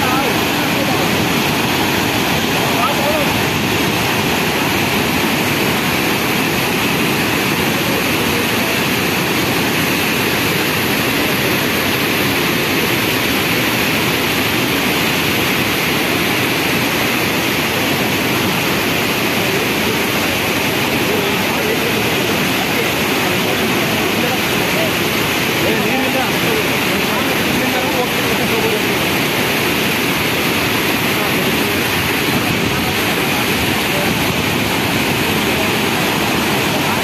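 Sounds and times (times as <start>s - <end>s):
river rushing over waterfall: 0.0s - 37.0s.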